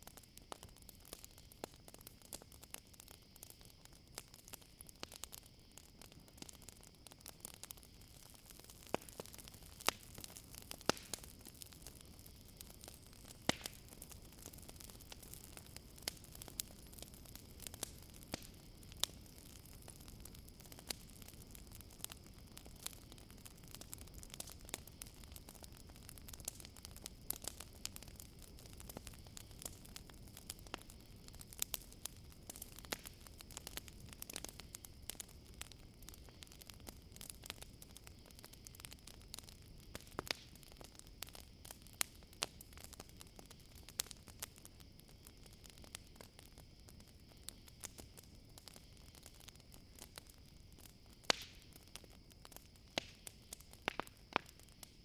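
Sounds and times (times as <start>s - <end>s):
campfire crackling and popping: 0.0s - 55.0s
crickets trilling: 0.0s - 55.0s.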